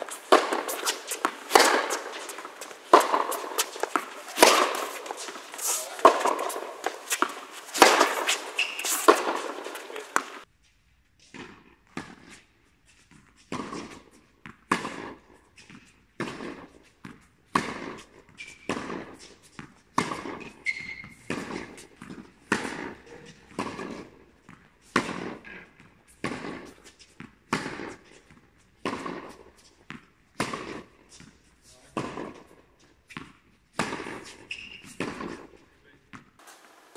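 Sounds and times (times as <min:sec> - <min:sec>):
racket hitting tennis ball: 0:00.0 - 0:10.5, 0:11.3 - 0:12.5, 0:13.4 - 0:36.9
tennis balls bouncing: 0:00.0 - 0:10.5, 0:13.2 - 0:36.4.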